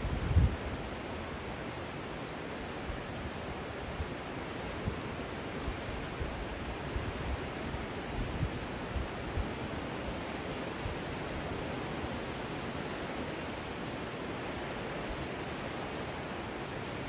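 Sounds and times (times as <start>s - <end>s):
wind gusts on microphone: 0.0s - 1.8s, 2.7s - 17.0s
river rushing in flood: 0.0s - 17.0s.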